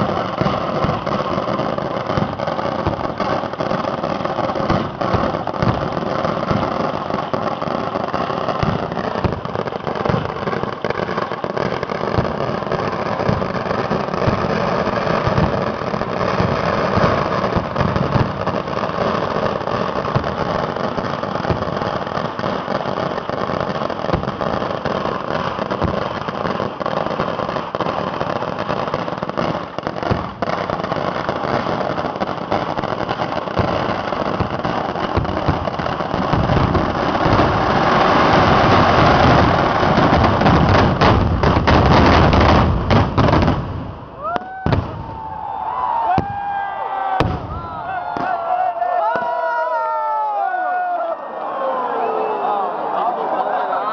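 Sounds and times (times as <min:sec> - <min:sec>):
fireworks bangs and crackling: 0:00.0 - 0:51.1.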